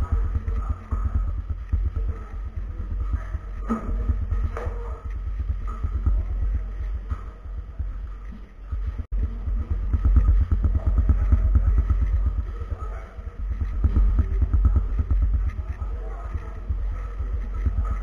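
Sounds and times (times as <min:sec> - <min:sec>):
heavy low rumble: 0:00.0 - 0:18.0.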